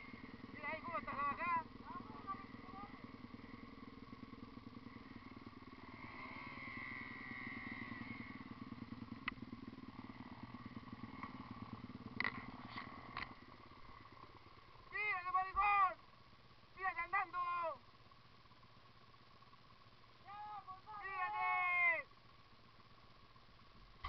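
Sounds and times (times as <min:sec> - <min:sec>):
dirt bike engine idling: 0:00.0 - 0:24.0.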